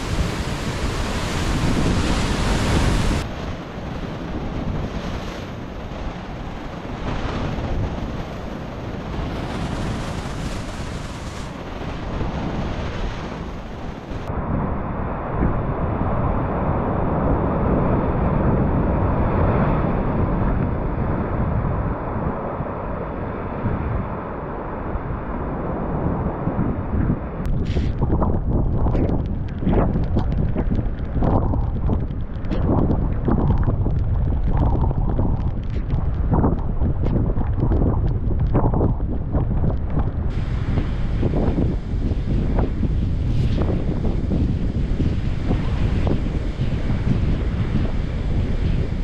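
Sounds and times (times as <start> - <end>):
ocean surf: 0.0 - 37.8, 39.7 - 49.0
wind rushing over microphone: 0.0 - 49.0.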